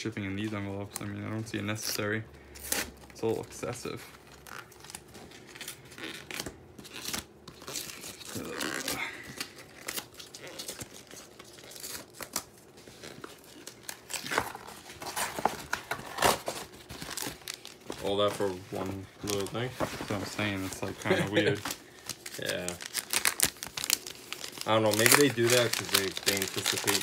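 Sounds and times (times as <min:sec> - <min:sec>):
packaging tearing and rustling: 0:01.7 - 0:27.0.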